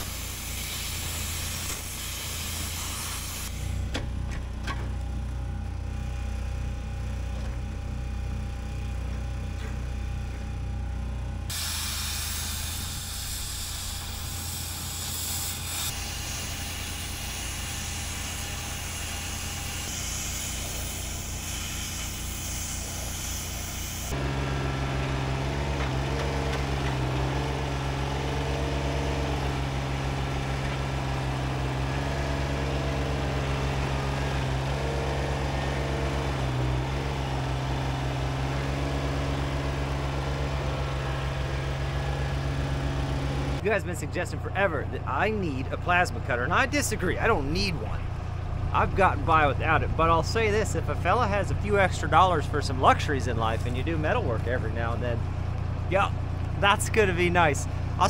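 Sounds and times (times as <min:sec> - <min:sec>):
engine running: 0:00.0 - 0:58.0
tractor diesel engine running: 0:00.0 - 0:58.0.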